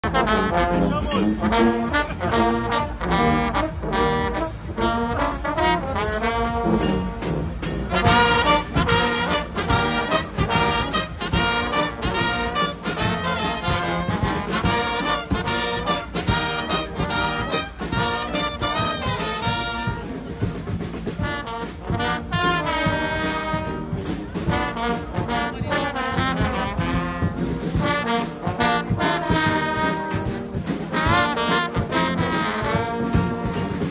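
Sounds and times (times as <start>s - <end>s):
bass drum beating: 0.0s - 33.9s
brass band playing: 0.0s - 33.9s.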